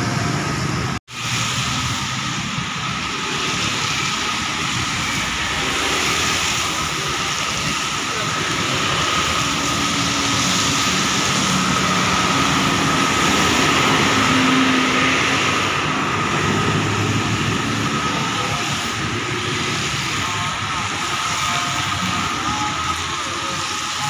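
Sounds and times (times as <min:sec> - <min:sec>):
bus passing: 0:00.0 - 0:24.0
cars and motorcycles passing: 0:00.0 - 0:24.0
tyres hissing on wet road: 0:00.0 - 0:24.0.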